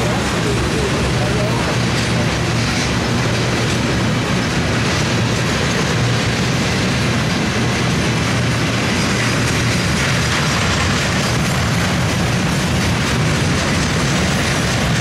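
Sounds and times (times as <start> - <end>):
steel wheels rolling on rails: 0.0 - 15.0.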